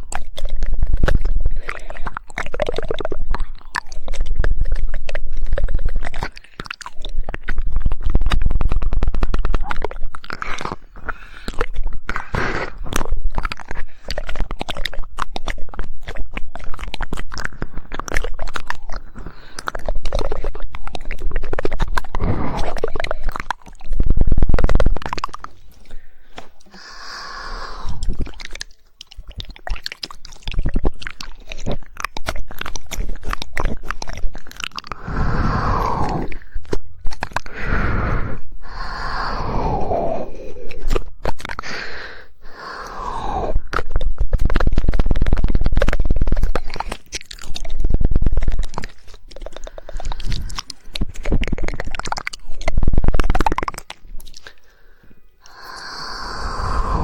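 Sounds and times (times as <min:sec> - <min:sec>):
rapid tongue clicking: 0:00.0 - 0:57.0
wet mouth sounds: 0:00.0 - 0:57.0.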